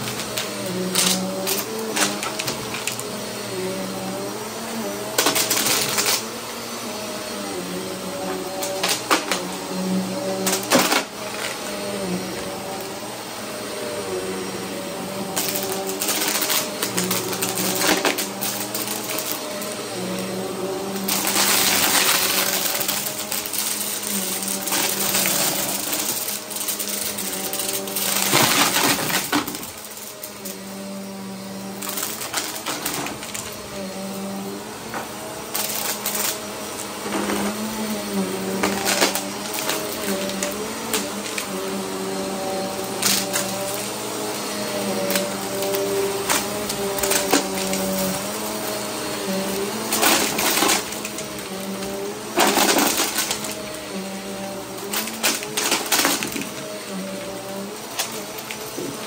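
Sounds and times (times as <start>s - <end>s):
debris rattling in dust bin: 0.0s - 3.1s, 4.9s - 6.4s, 8.2s - 9.6s, 10.3s - 13.0s, 15.1s - 30.8s, 31.6s - 59.0s
vacuum cleaner running: 0.0s - 59.0s.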